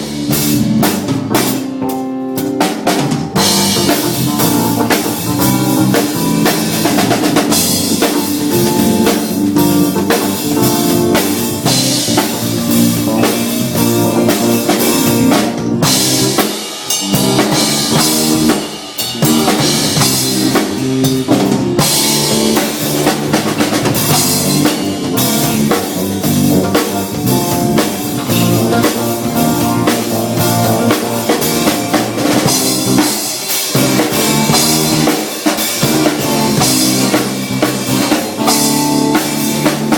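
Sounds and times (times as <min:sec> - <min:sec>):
music with full drum kit: 0:00.0 - 0:39.9.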